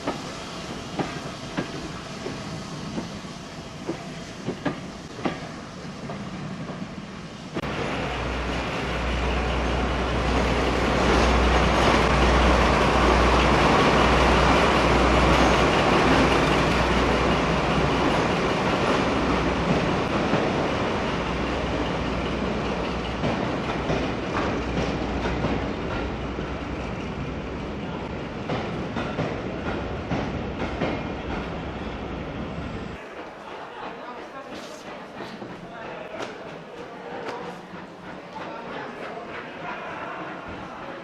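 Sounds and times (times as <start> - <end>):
railway carriage running on track: 0.0 - 41.0.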